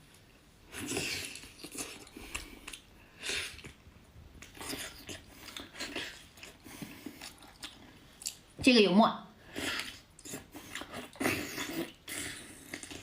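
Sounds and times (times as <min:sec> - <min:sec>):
person eating: 0:00.7 - 0:03.8, 0:04.4 - 0:08.4, 0:09.4 - 0:13.0.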